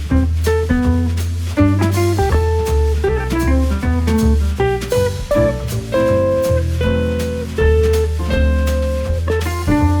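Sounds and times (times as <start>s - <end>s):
jazzy instrumental music: 0.0s - 10.0s.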